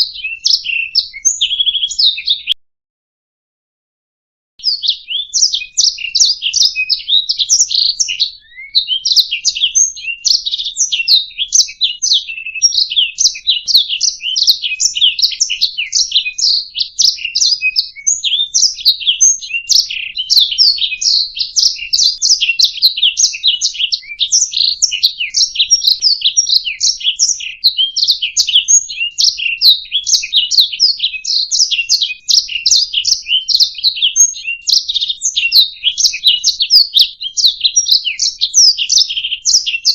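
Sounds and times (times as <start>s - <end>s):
canary singing: 0.0s - 2.6s, 4.6s - 39.9s.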